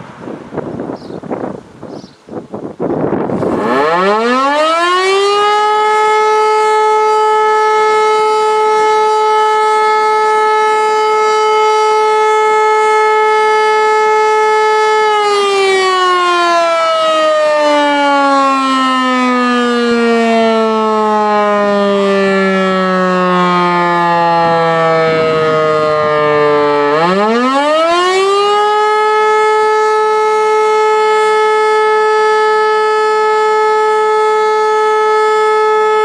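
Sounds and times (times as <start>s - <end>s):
fire siren wailing: 3.0s - 36.0s.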